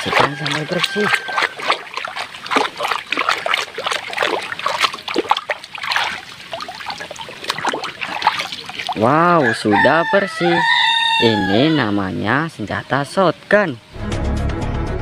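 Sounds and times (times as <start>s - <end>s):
soapy water splashing in a tub: 0.0s - 12.1s
water trickling: 0.0s - 13.8s.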